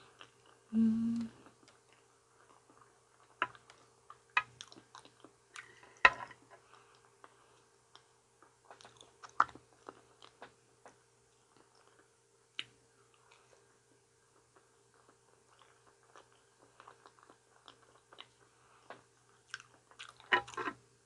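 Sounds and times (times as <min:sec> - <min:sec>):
person chewing banana: 0:00.0 - 0:06.0, 0:06.6 - 0:13.6, 0:14.3 - 0:20.8.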